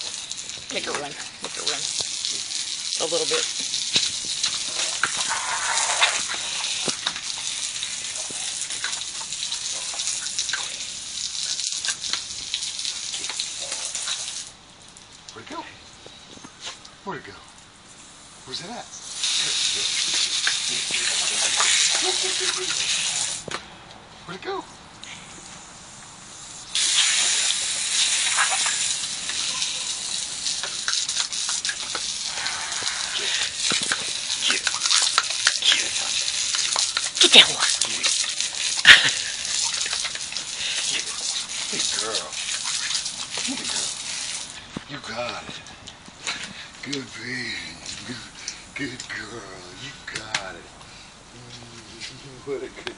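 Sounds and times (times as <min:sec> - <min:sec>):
hose spraying water on concrete: 0:00.0 - 0:15.4, 0:17.9 - 0:23.6, 0:25.0 - 0:50.7.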